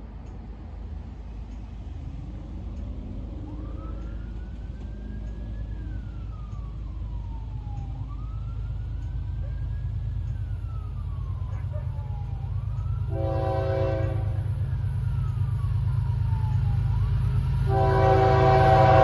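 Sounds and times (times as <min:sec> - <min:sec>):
emergency vehicle wail siren: 0:00.0 - 0:19.0.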